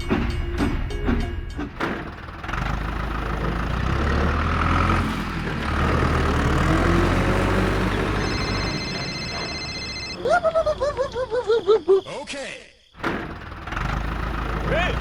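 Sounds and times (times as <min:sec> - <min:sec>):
engine rumble: 0:00.0 - 0:12.0, 0:13.0 - 0:15.0.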